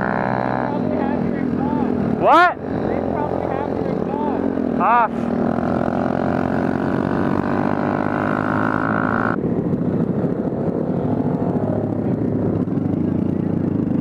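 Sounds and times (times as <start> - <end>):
loud raw motorcycle exhaust: 0.0 - 14.0.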